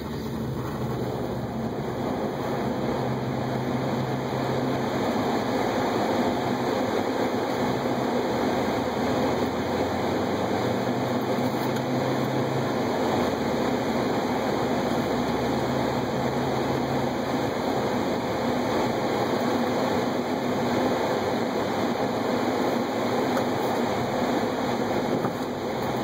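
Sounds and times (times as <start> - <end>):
car engine hum: 0.0 - 26.0
tyre and road rumble: 0.0 - 26.0.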